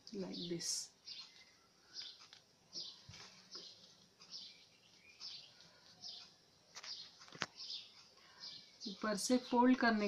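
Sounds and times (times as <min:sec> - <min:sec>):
faint bird chirps: 0:00.2 - 0:10.0.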